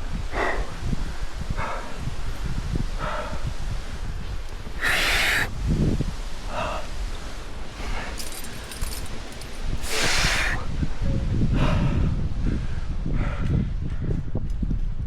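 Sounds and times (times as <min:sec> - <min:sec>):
wind buffeting microphone: 0:00.0 - 0:15.0
person breathing hard: 0:00.1 - 0:05.5, 0:06.3 - 0:10.7, 0:11.4 - 0:14.3.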